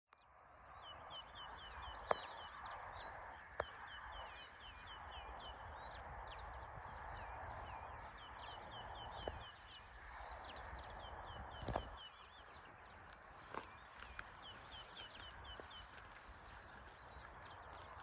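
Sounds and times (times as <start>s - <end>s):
steady outdoor hiss: 0.3s - 18.0s
birds chirping: 0.6s - 18.0s.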